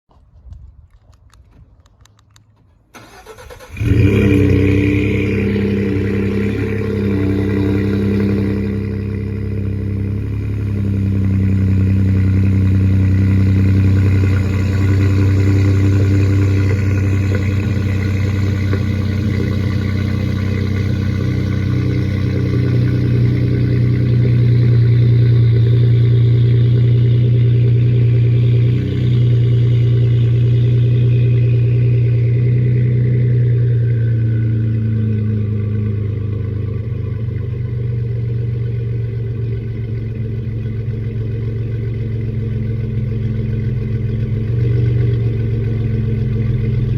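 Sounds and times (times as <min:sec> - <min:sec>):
car engine starting and idling: 0:01.8 - 0:46.9.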